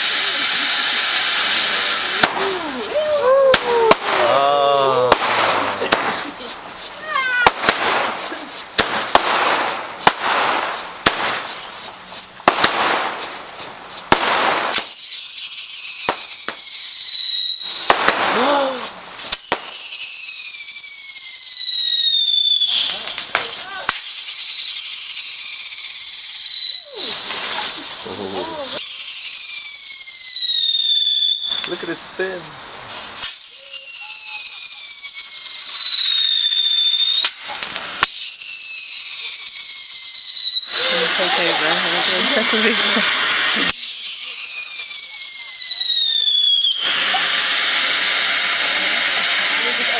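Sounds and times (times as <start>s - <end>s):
firework bangs and crackling: 0.0s - 49.9s
whistling fireworks: 0.0s - 49.9s.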